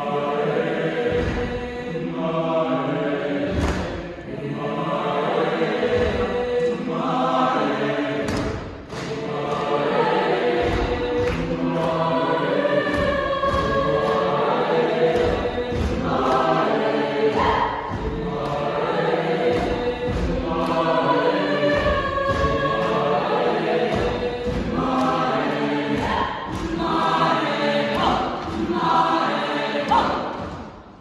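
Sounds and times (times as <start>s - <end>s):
mixed choir singing: 0.0s - 31.0s
steady beat of short knocks: 0.5s - 2.2s, 3.0s - 4.4s, 5.5s - 31.0s.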